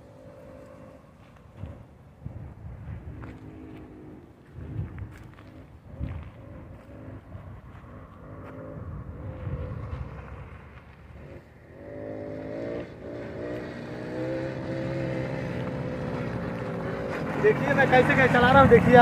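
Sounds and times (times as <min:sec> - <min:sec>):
quad two-stroke engine revving: 0:00.0 - 0:01.9, 0:03.3 - 0:19.0.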